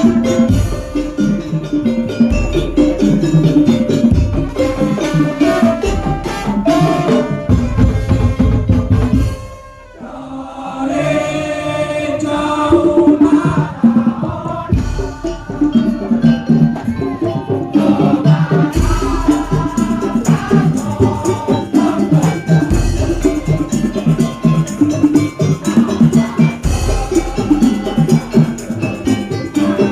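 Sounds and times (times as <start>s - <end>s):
drums and slit-drum percussion: 0.0s - 29.9s.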